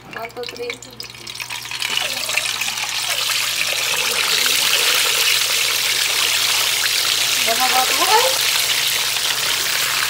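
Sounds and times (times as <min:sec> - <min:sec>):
hot oil sizzling: 0:00.0 - 0:10.0.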